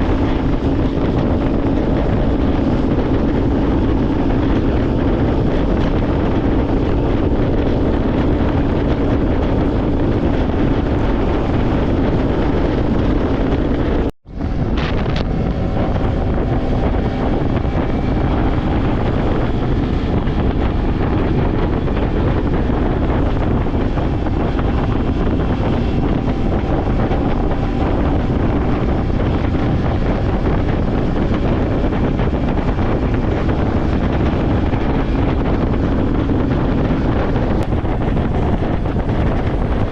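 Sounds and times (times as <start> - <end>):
low motor drone: 0.0 - 39.9
wind buffeting microphone: 0.0 - 39.9.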